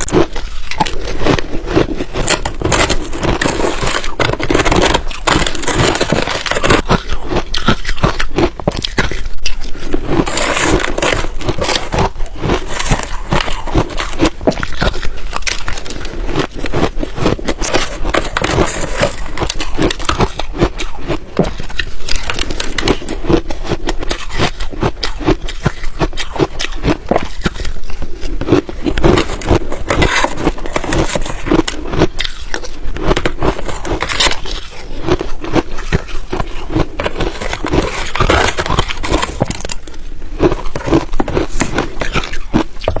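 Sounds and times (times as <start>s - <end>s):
ice being chewed: 0.0s - 43.0s.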